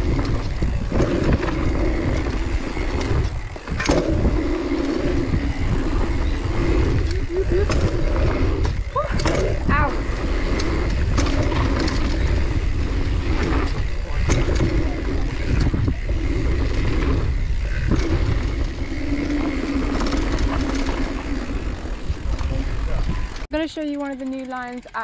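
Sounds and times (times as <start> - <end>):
bike tyres rolling on dirt: 0.0 - 23.5
wind buffeting microphone: 0.0 - 23.6
bike clicks and rattles: 0.0 - 25.0.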